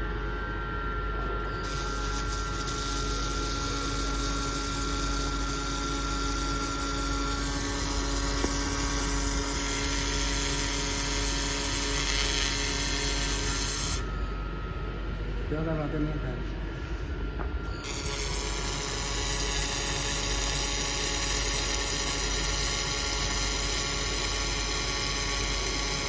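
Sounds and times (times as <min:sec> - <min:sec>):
machine hum: 0:00.0 - 0:26.0
thin whine: 0:00.0 - 0:26.0.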